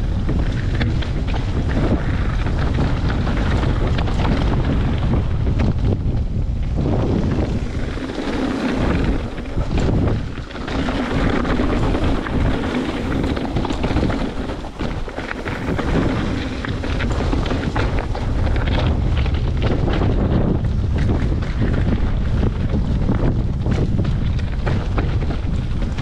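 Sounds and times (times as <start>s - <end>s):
bike rattles and knocks: 0.0s - 26.0s
bike tyres rumbling on trail: 0.0s - 26.0s
wind rushing over microphone: 0.0s - 26.0s.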